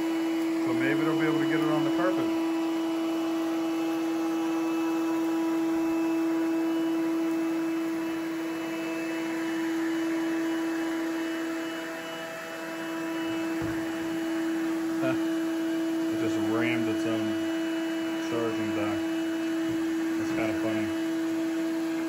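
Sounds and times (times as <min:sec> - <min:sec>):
robot vacuum fan whine: 0:00.0 - 0:22.0.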